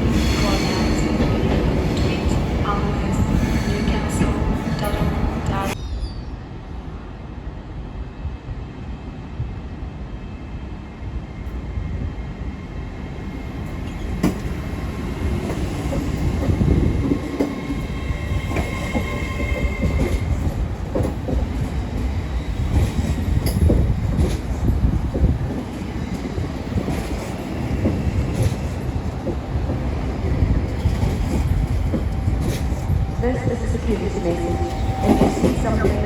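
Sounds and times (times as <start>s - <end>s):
train low rumble: 0.0s - 5.8s, 6.4s - 36.0s.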